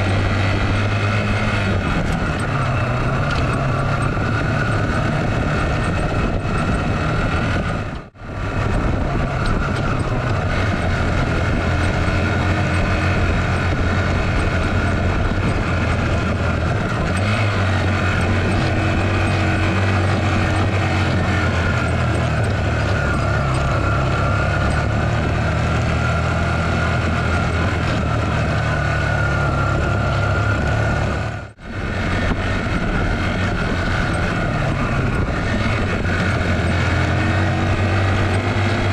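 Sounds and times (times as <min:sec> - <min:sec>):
motorcycle engine revving under load: 0:00.0 - 0:38.9.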